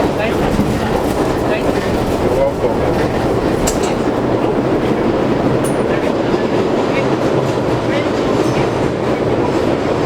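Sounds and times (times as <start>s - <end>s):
subway car rumble: 0.0s - 10.0s
wheels clattering over rail joints: 0.0s - 10.0s.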